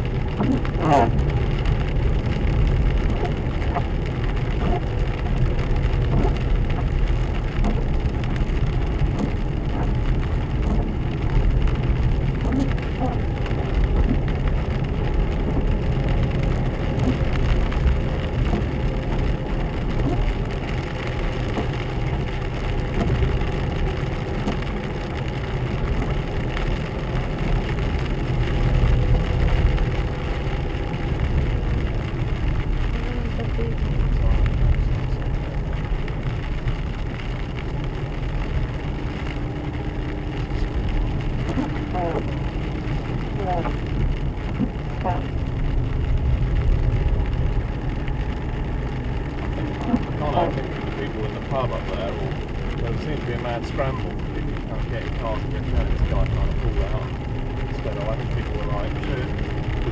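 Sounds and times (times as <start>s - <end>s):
engine and tyres rumbling: 0.0s - 59.9s
light crackling patter: 0.0s - 59.9s.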